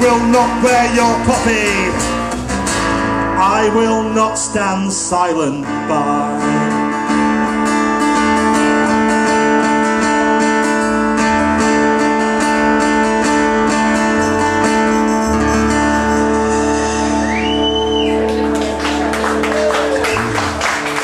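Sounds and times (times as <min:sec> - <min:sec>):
folk band instrumental: 0:00.0 - 0:04.8, 0:05.8 - 0:21.0
acoustic guitar strumming: 0:00.0 - 0:21.0.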